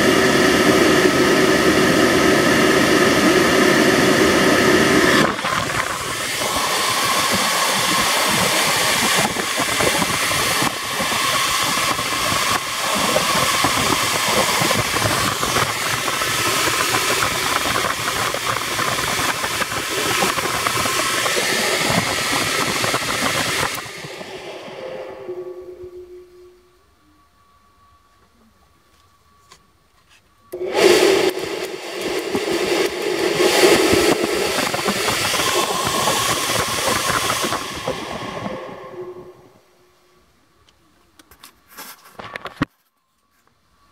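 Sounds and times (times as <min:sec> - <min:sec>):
blower air rushing: 0:00.0 - 0:27.0, 0:30.5 - 0:40.2
electric motor hum: 0:00.0 - 0:28.2, 0:30.4 - 0:40.2.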